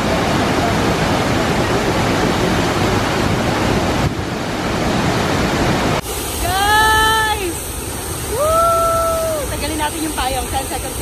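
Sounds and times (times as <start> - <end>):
waterfall crashing into pool: 0.0 - 11.0.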